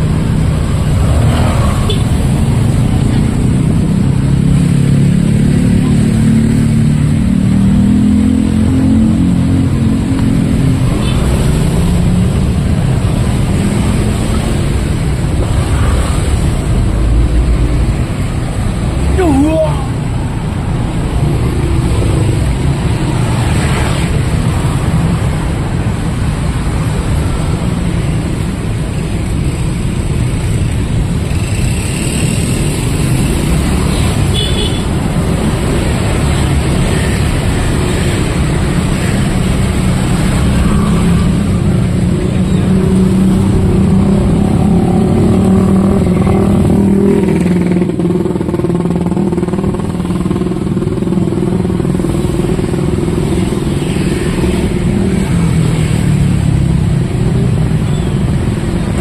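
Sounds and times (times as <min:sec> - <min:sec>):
motorcycles and cars passing: 0:00.0 - 0:59.0.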